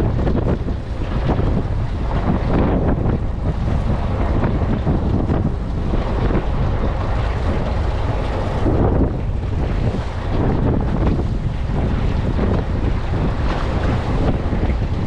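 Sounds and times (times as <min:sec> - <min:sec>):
wash of water: 0:00.0 - 0:15.0
wind buffeting microphone: 0:00.0 - 0:15.0.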